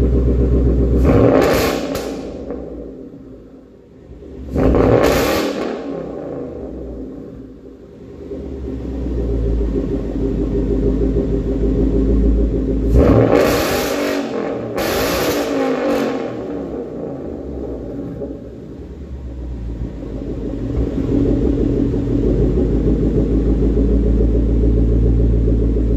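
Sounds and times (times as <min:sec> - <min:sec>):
car engine idling and revving: 0:00.0 - 0:25.9.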